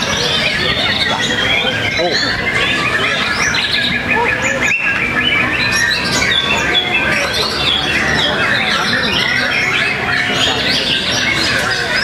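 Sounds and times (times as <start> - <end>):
birds singing whistled phrases: 0.0 - 12.0.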